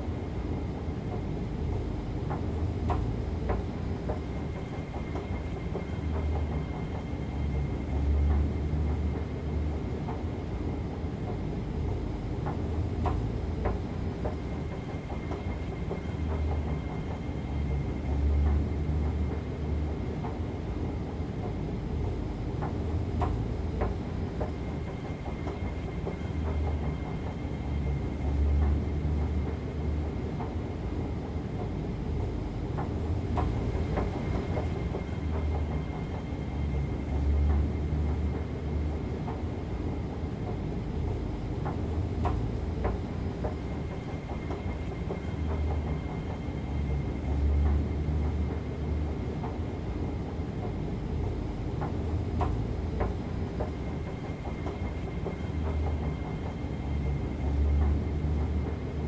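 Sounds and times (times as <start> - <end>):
escalator mechanical rumble: 0.0 - 59.0.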